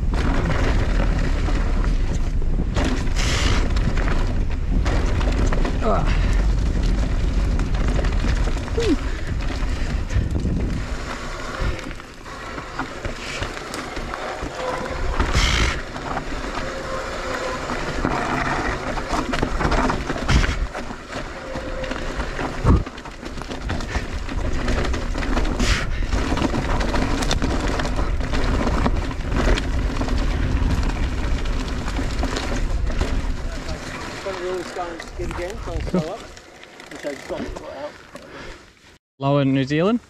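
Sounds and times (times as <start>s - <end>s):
bike rattling over rough ground: 0.0s - 38.9s
bike tyre noise on dirt: 0.0s - 39.0s.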